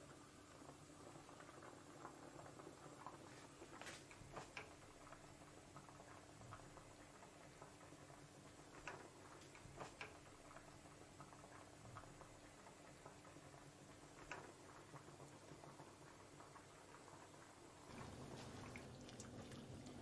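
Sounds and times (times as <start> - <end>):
pasta water bubbling: 0.0 - 20.0.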